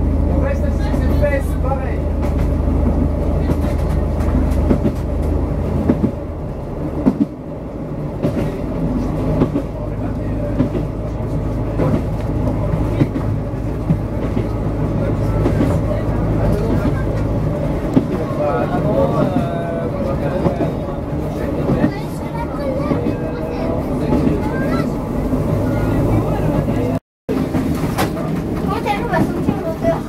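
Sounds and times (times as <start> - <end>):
diesel railcar engine hum: 0.0 - 30.0
wheels clicking on track: 0.2 - 6.2, 8.2 - 30.0.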